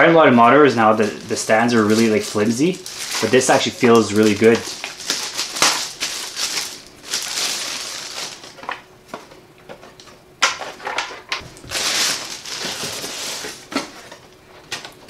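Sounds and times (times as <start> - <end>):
plastic wrapping crinkling: 0.2 - 8.9, 11.4 - 15.0.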